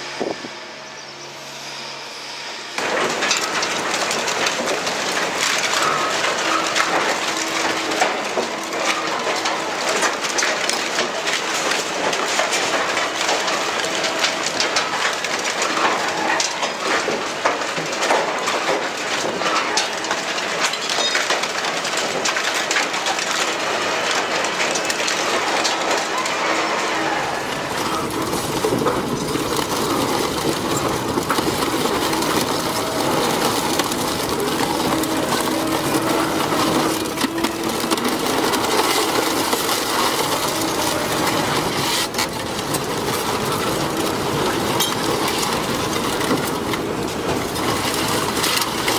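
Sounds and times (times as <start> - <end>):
industrial shredder grinding scrap metal: 0.0 - 48.9
scrap metal clattering and crackling: 2.7 - 48.9.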